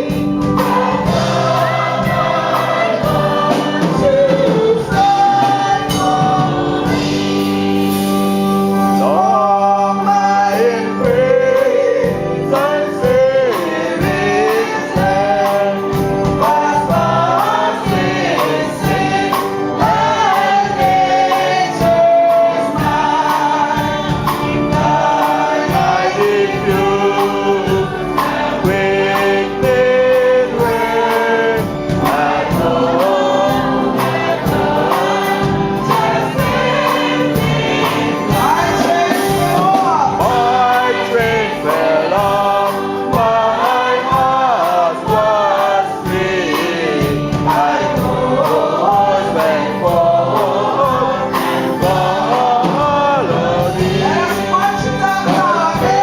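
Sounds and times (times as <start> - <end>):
steady beat: 0.0 - 9.0, 12.1 - 56.0
choir singing in harmony: 0.0 - 56.0.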